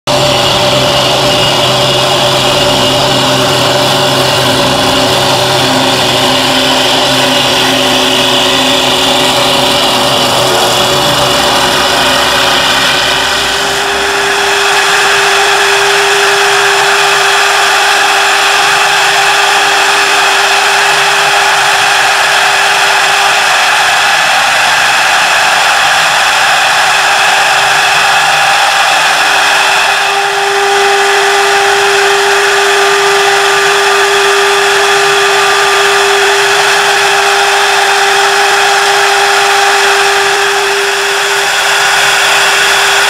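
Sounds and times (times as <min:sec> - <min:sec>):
steady high machine tone: 0:00.0 - 0:43.0
wood lathe whirring and cutting: 0:00.0 - 0:43.0.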